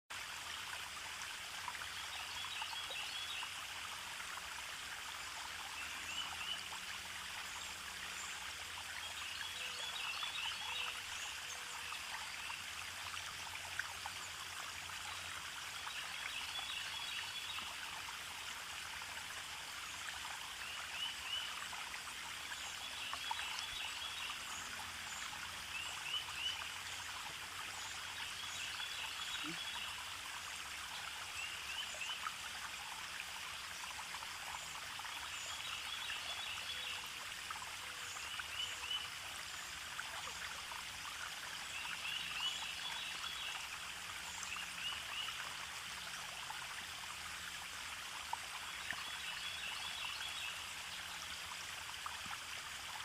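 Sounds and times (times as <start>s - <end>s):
stream water trickling: 0.1s - 53.0s.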